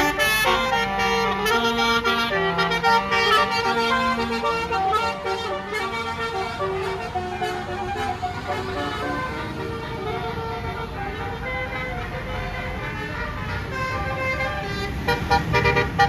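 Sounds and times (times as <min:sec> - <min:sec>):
musical bus horn playing a tune: 0:00.0 - 0:16.0.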